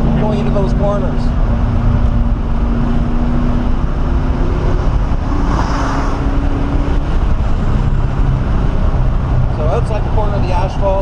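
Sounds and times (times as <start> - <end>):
car engine at speed: 0.0 - 11.0
road and wind rumble: 0.0 - 11.0.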